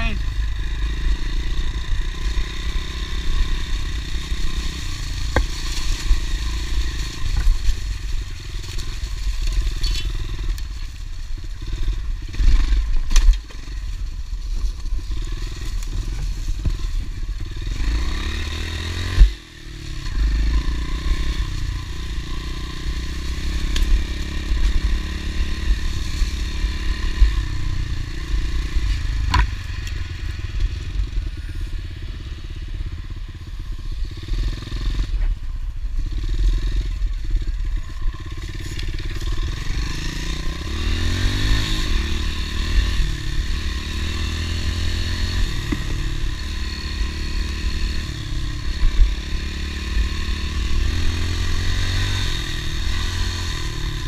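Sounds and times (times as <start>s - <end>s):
motorbike engine running: 0.0s - 54.0s.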